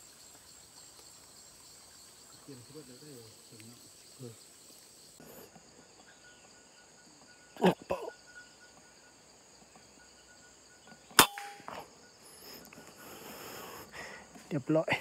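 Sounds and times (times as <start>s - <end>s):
forest insects droning: 0.0s - 15.0s.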